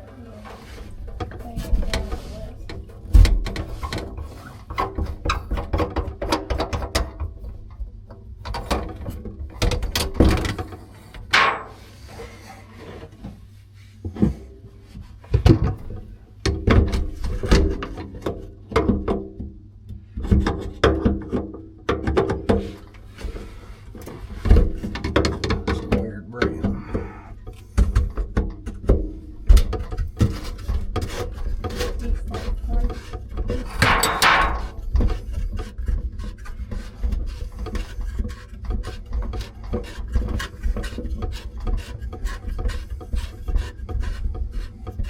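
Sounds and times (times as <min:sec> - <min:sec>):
clanks and knocks: 0:00.0 - 0:12.1, 0:14.0 - 0:45.0.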